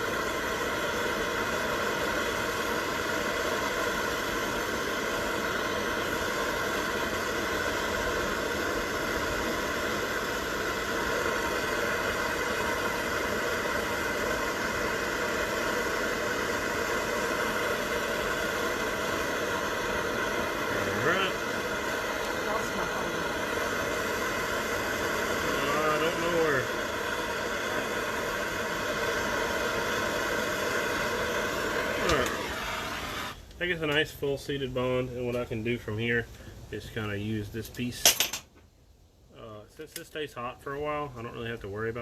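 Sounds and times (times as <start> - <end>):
gas torch flame hissing: 0.0 - 38.5.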